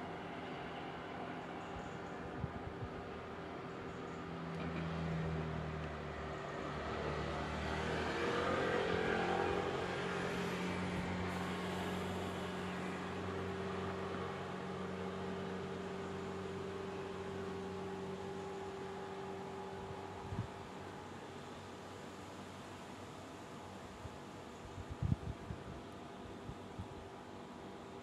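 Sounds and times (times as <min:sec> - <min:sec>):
low mechanical hum with hiss: 0:00.0 - 0:28.0.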